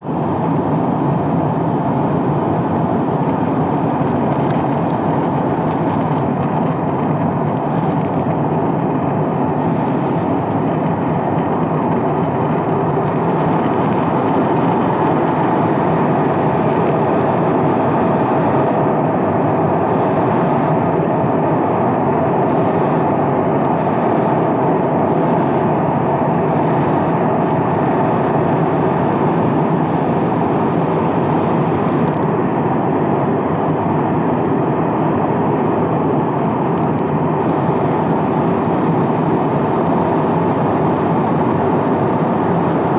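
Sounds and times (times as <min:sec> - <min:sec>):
airflow rush in cabin: 0:00.0 - 0:42.9
jet engine hum: 0:00.0 - 0:42.9.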